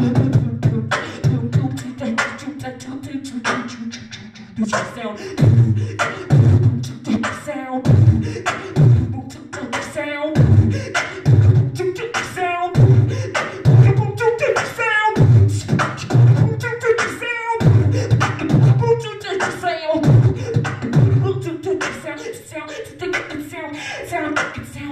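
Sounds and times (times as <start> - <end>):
woman beatboxing into microphone: 0.0 - 24.9.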